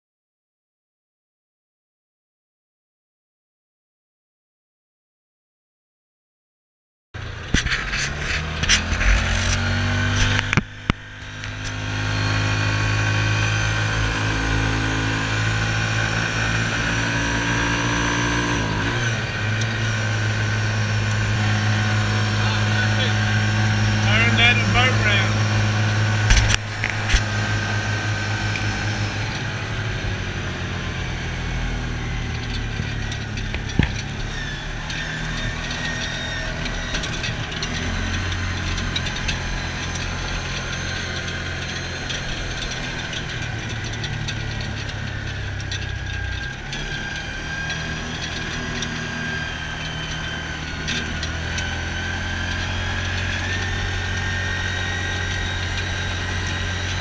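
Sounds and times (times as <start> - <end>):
vehicle engine running: 7.2 - 57.0.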